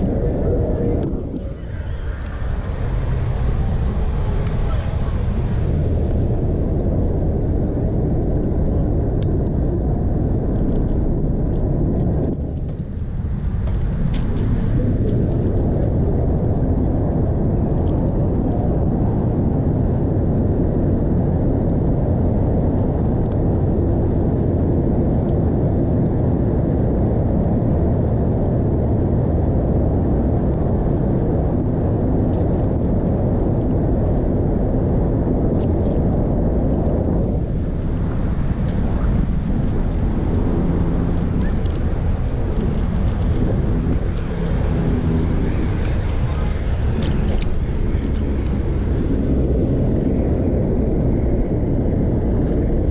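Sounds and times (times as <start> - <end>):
street noise: 0.0 - 52.9
wind rumbling over microphone: 0.0 - 52.9.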